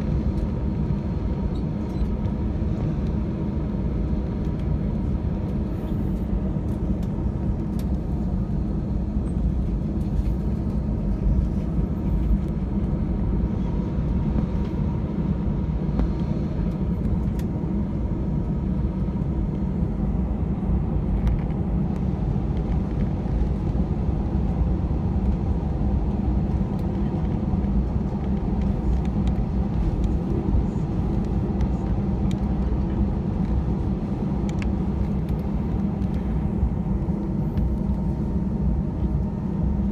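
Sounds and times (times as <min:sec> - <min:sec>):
jet engines rumbling at idle: 0:00.0 - 0:39.9.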